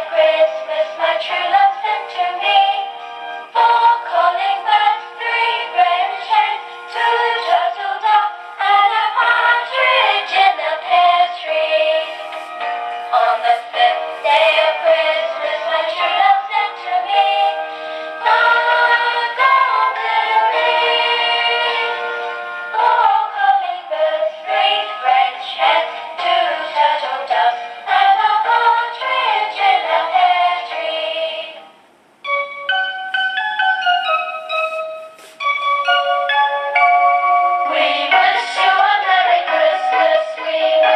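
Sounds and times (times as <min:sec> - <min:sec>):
synthesized christmas song on small speaker: 0:00.0 - 0:40.9.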